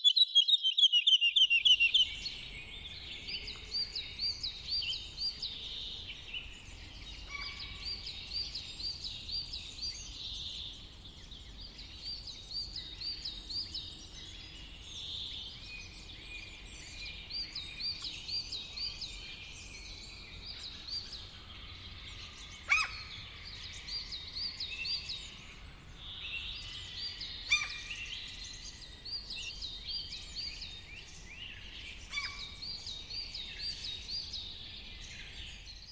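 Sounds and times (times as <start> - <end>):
songbirds chirping: 0.0 - 35.9.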